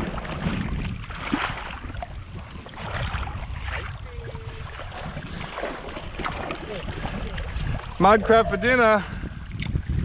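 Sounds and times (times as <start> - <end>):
feet wading through shallow water: 0.0 - 10.0
wind rumbling on microphone: 0.0 - 10.0.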